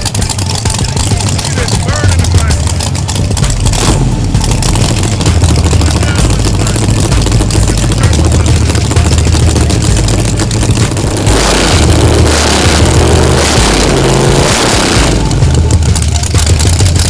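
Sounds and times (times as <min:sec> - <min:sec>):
racing car engines idling: 0:00.0 - 0:17.0.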